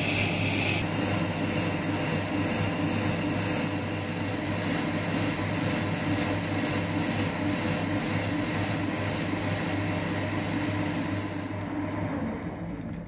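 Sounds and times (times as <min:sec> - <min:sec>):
lathe cutting metal: 0:00.0 - 0:11.1.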